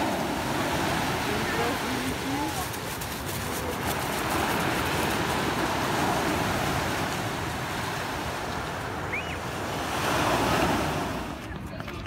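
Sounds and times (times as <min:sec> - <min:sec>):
surf on pebble beach: 0:00.0 - 0:12.0.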